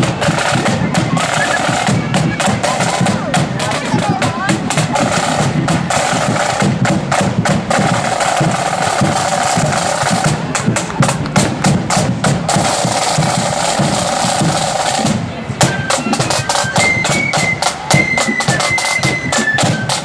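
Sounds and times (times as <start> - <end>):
bass drum beat: 0.0 - 16.7
side drum rolls: 0.0 - 20.0.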